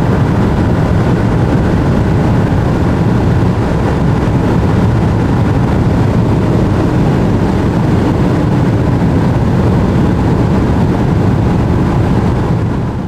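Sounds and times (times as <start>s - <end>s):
loud engine drone: 0.0s - 13.0s
rushing noise: 0.0s - 13.0s.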